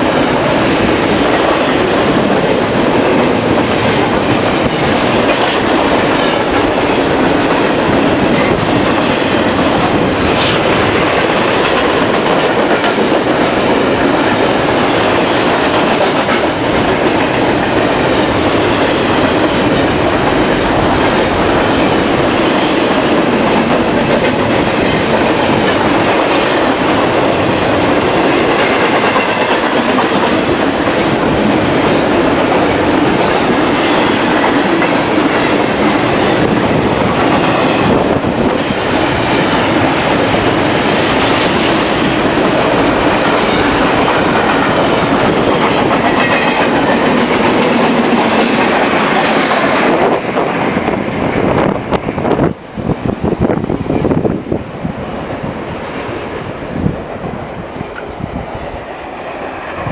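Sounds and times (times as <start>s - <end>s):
steel wheels running on rails: 0.0s - 54.5s
train cars rattling: 0.0s - 59.9s.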